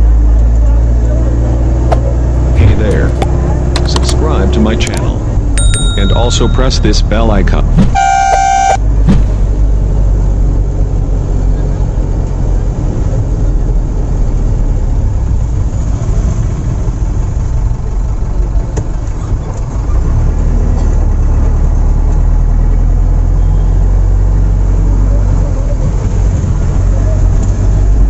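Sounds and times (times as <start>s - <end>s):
bus engine drone: 0.0s - 28.0s
road noise: 0.0s - 28.0s.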